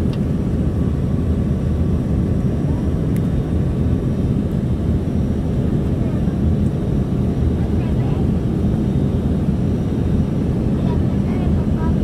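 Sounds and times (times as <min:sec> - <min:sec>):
jet engines and airflow rumble: 0:00.0 - 0:12.0.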